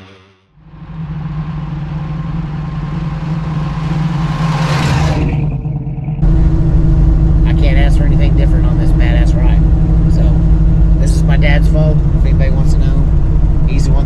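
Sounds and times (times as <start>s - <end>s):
deeper engine sound: 0.0s - 14.0s
car engine passing by: 0.6s - 14.0s.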